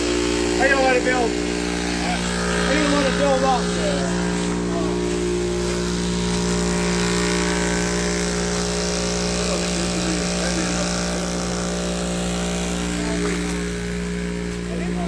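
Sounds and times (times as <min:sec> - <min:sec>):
air compressor humming: 0:00.0 - 0:15.0.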